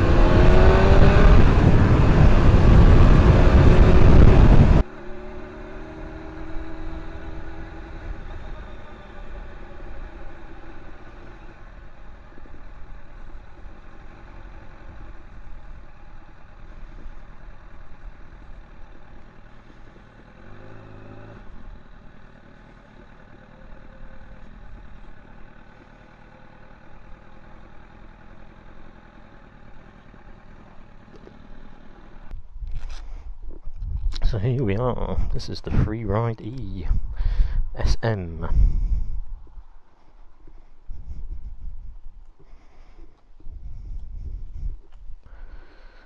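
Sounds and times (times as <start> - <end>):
motorcycle engine running: 0.0 - 35.4, 36.1 - 46.0.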